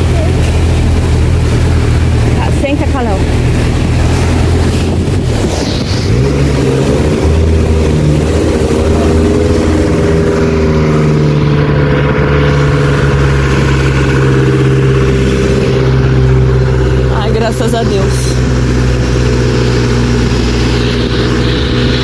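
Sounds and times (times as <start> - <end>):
motorhome engine running loud: 0.0 - 22.0.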